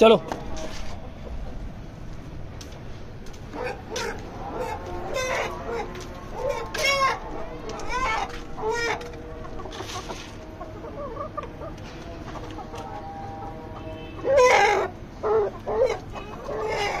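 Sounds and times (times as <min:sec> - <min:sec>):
chickens clucking and calling: 0:00.1 - 0:02.4, 0:03.2 - 0:17.0.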